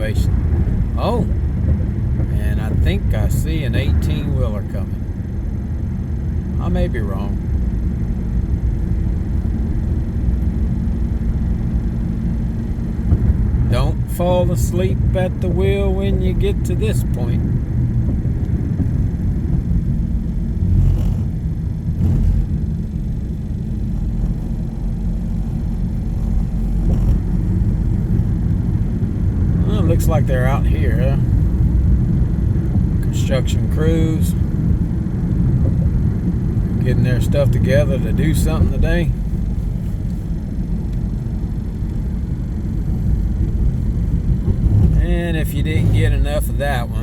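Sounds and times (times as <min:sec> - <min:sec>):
car road and engine rumble: 0:00.0 - 0:47.0.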